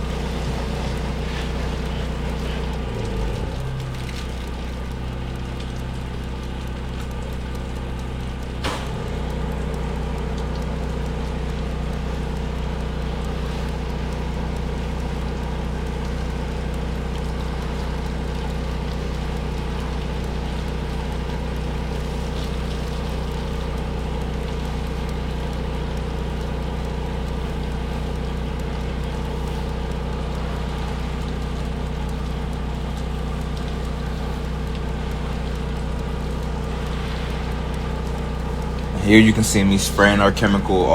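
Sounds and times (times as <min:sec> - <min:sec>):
pump motor running: 0:00.0 - 0:40.9
click: 0:00.1 - 0:40.2.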